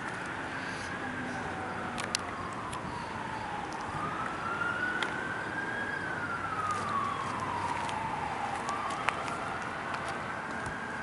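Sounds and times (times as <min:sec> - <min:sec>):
fire truck siren wailing: 0:00.0 - 0:11.0.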